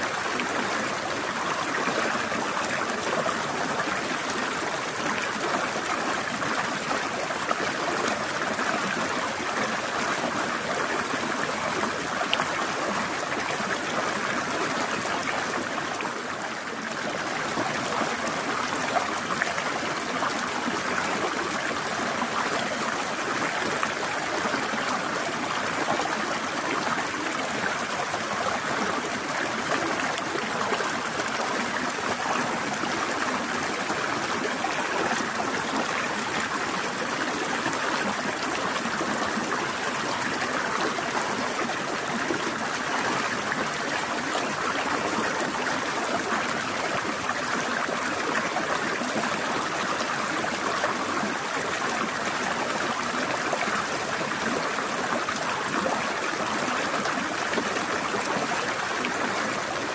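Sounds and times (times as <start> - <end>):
stream flowing water: 0.0 - 59.9.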